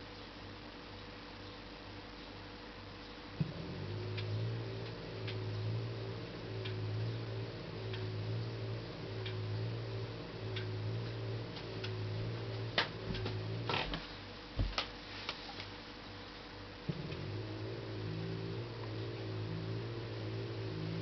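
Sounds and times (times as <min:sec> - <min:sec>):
faint rhythmic clicking: 0:00.0 - 0:21.0
washing machine motor hum: 0:02.7 - 0:21.0.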